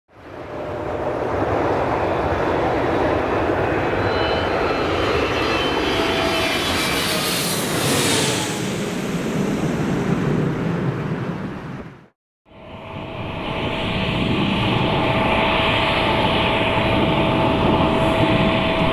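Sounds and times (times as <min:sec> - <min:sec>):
jet airliner passing overhead: 0:00.2 - 0:18.9.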